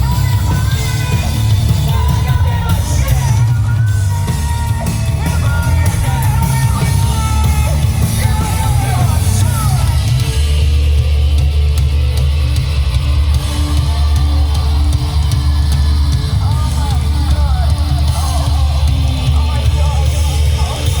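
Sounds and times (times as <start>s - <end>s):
sung and shouted vocals: 0.0s - 11.5s, 12.7s - 21.0s
live punk rock band playing: 0.0s - 21.0s.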